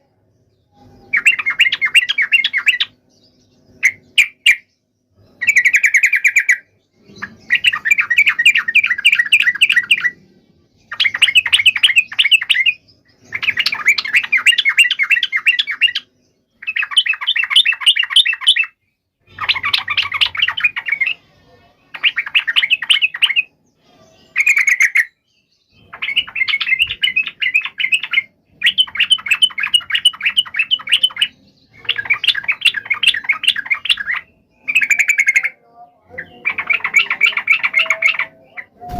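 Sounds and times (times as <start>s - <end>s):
bulbul singing chattering phrases: 5.4s - 23.6s, 25.8s - 38.9s.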